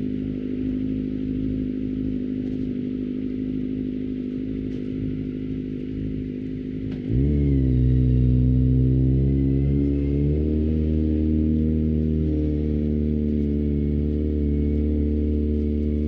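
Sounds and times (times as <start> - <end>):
deep steady droning tone: 0.0 - 16.0
motorcycle engine running: 0.0 - 16.0.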